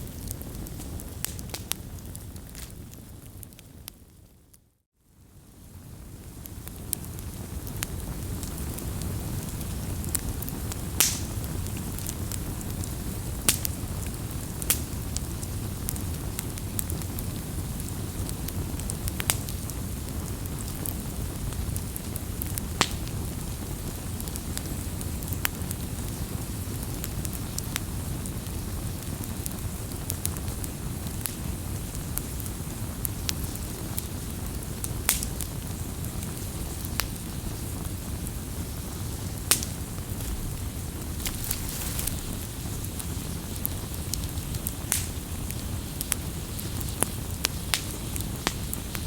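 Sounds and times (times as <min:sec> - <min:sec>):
campfire flames rushing: 0:00.0 - 0:03.6, 0:05.6 - 0:49.0
wood crackling and popping: 0:00.0 - 0:03.7, 0:06.2 - 0:23.3, 0:29.2 - 0:37.7, 0:38.3 - 0:49.0.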